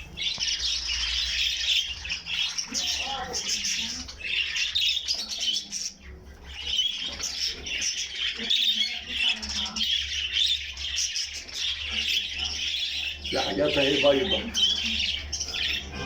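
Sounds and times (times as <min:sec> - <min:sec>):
caged birds chirping and squawking: 0:00.0 - 0:16.0.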